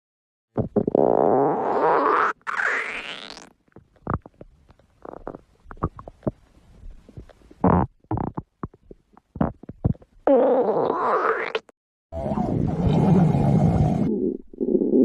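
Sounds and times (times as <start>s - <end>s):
stomach growling and gurgling: 0.5s - 15.0s.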